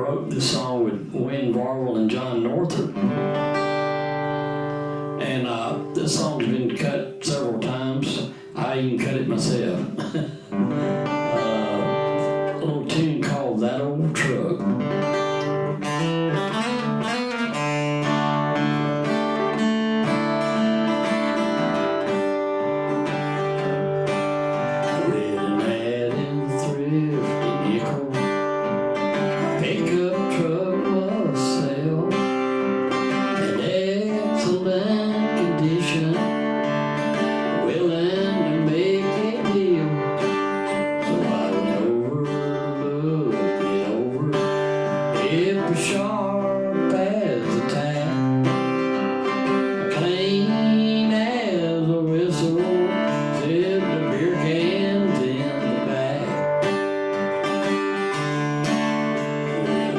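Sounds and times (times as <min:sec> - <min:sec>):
acoustic guitar strumming: 0:00.0 - 0:59.9
man singing country song: 0:00.0 - 0:59.9.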